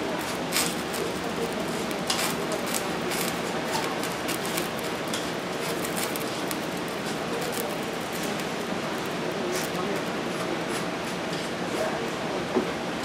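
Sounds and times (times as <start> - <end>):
spoon scraping wire-mesh sieve: 0.2 - 10.8.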